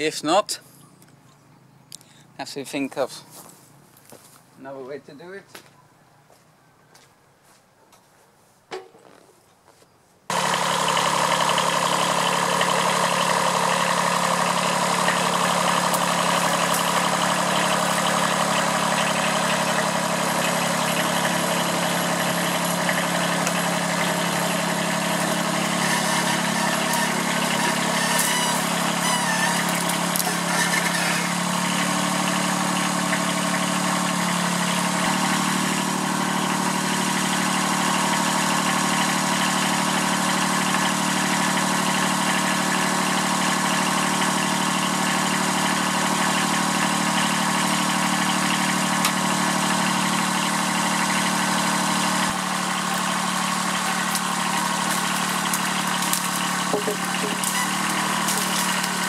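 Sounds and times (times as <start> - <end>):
diesel tractor engine running: 10.3 - 59.0.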